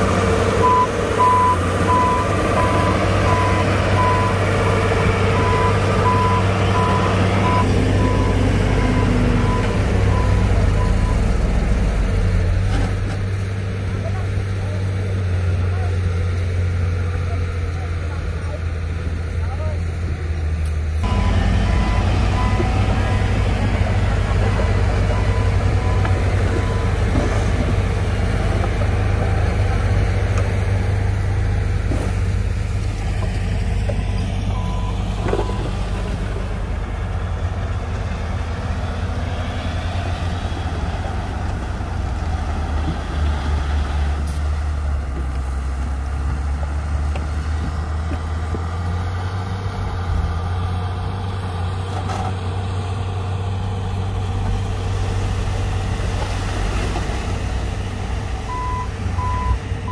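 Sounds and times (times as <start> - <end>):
heavy diesel machinery drone: 0.0 - 59.9.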